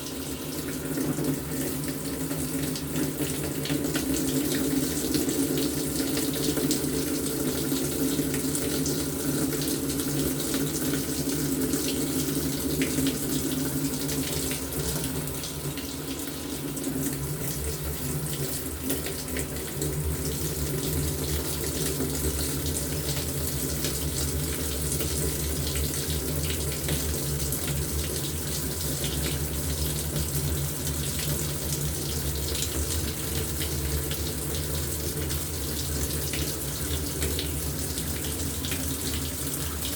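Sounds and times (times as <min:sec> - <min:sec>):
washing machine hum: 0:00.0 - 0:39.9
water running into tub: 0:00.0 - 0:39.9.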